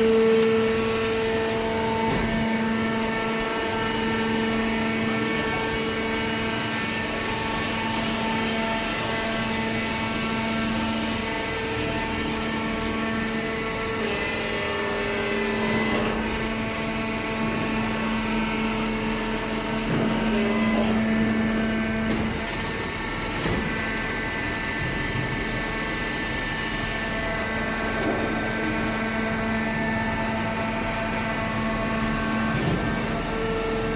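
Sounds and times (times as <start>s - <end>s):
hydraulic baler humming: 0.0s - 33.9s.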